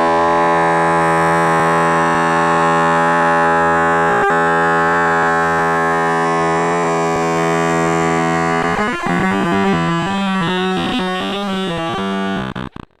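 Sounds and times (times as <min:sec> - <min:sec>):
distorted buzzy synthesized tone: 0:00.0 - 0:13.0.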